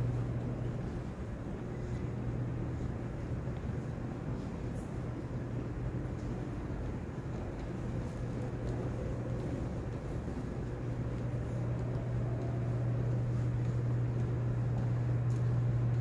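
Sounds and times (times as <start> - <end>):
faint background noise: 0.0 - 16.0
steady low hum: 0.0 - 16.0.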